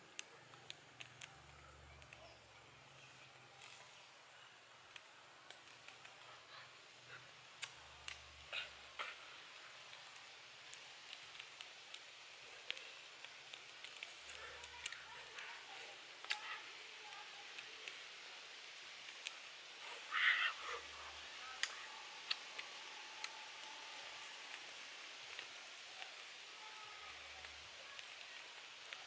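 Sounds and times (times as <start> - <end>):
faint steady hiss: 0.0 - 29.0
wood fire clicks and crackles: 0.0 - 29.0.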